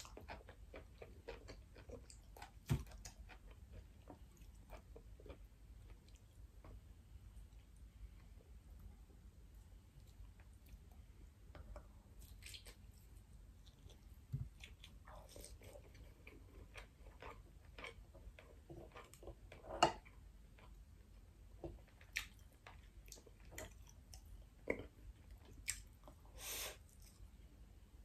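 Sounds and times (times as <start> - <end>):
chewing and wet mouth sounds: 0.0 - 6.8, 9.8 - 27.4.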